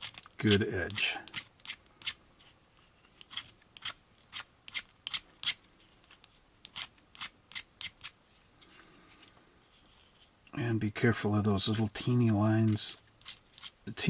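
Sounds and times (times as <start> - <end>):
hand tool scraping plastic: 0.0 - 10.4, 11.7 - 13.9.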